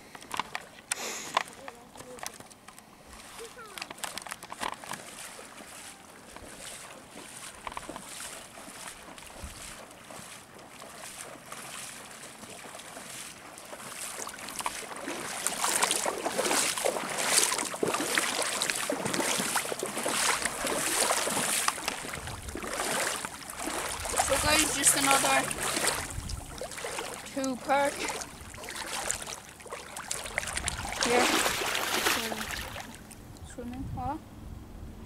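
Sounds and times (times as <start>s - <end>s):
water splashing around legs: 0.2s - 33.2s.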